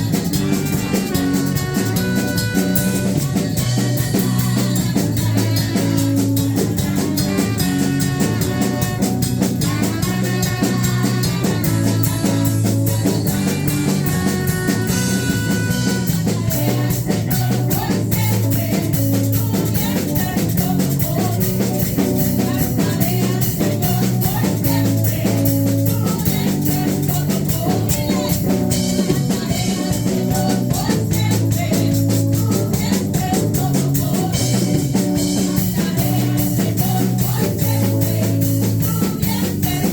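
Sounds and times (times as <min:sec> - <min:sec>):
bass guitar: 0:00.0 - 0:39.9
drum kit: 0:00.0 - 0:39.9
keyboard or guitar: 0:00.0 - 0:39.9.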